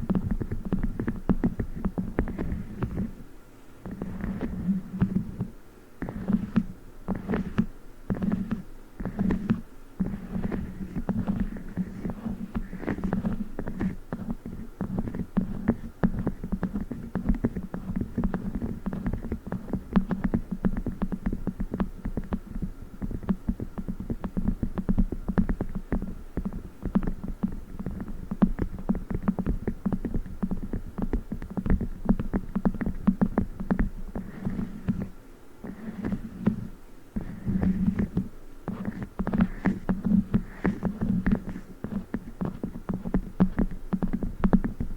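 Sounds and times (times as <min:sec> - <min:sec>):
rapid tapping on a toy: 0:03.9 - 0:44.9.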